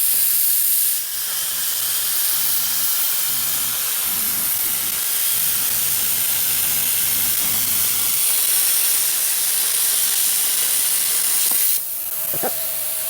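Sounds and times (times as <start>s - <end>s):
plasma torch hissing: 0.0s - 13.0s.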